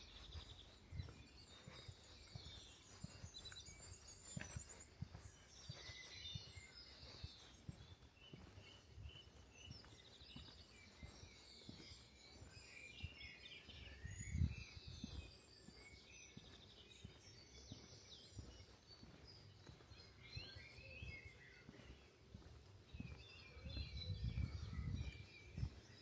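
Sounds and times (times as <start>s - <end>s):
footsteps walking: 0.0s - 26.0s
songbirds chirping and trilling: 0.0s - 26.0s.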